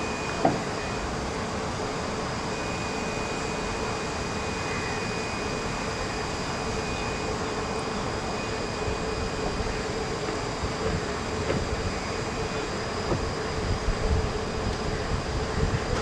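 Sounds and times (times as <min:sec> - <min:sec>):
machine drone: 0:00.0 - 0:16.0.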